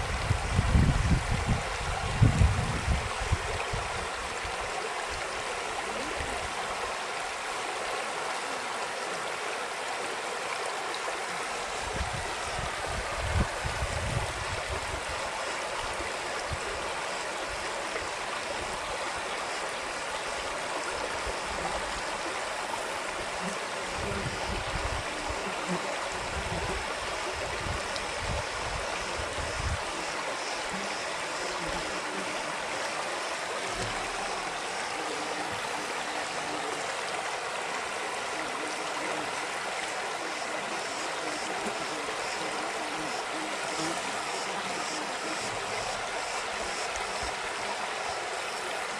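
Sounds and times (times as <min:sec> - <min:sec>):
creek water rushing: 0:00.0 - 0:48.9.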